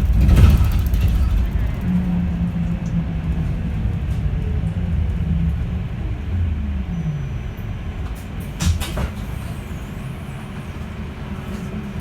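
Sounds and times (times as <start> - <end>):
bus low rumble: 0.0 - 12.0.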